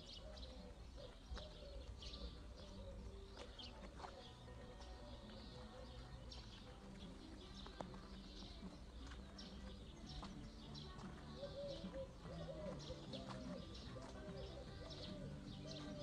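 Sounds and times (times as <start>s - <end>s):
low cooing calls: 0.0s - 4.1s, 5.0s - 16.0s
small birds chirping: 0.0s - 16.0s.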